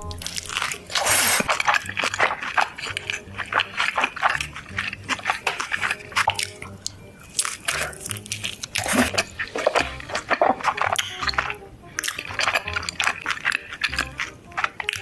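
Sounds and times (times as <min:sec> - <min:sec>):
crunching bite of pizza: 0:00.0 - 0:15.0
wet chewing: 0:00.0 - 0:15.0.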